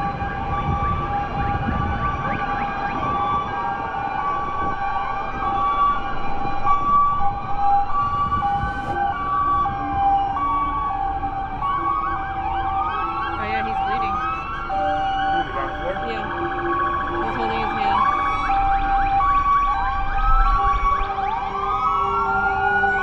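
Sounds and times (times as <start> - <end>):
two-tone hi-lo siren: 0.0 - 23.0
wailing sirens: 0.0 - 23.0.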